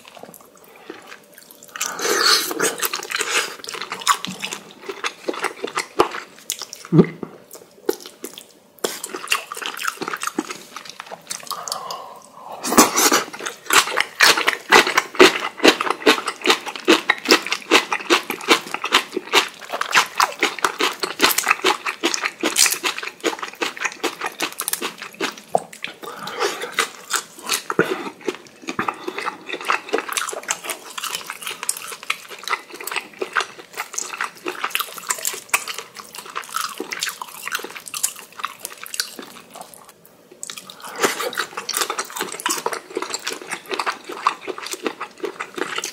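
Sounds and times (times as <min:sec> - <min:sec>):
wet chewing: 0:00.0 - 0:45.9.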